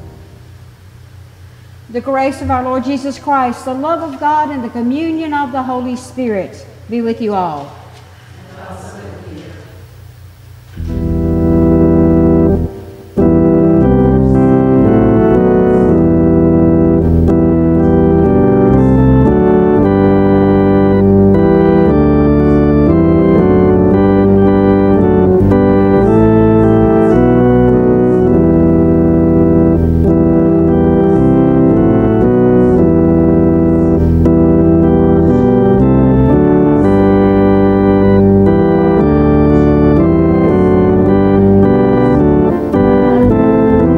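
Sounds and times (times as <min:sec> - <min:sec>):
organ playing sustained chords: 0:00.0 - 0:07.4, 0:08.7 - 0:43.9.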